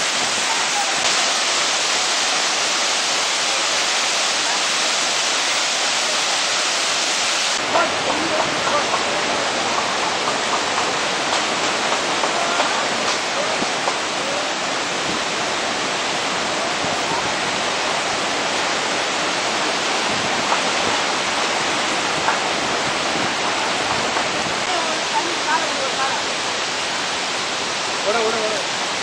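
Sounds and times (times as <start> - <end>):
floodwater rushing through rapids: 0.0 - 29.0.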